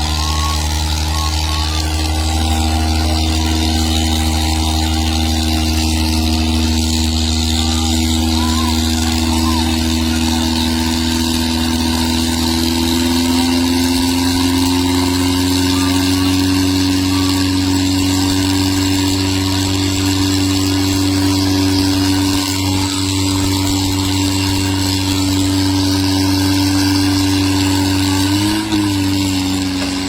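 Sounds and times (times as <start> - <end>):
tractor diesel engines under load: 0.0 - 30.0.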